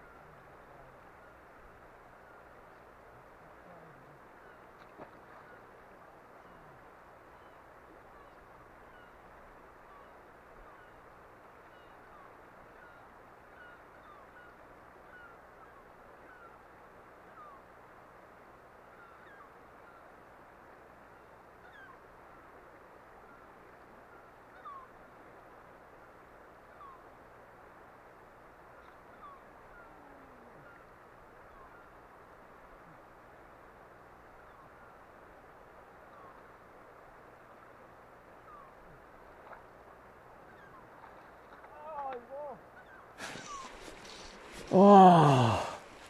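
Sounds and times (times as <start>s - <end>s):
flowing river water: 0.0s - 46.0s.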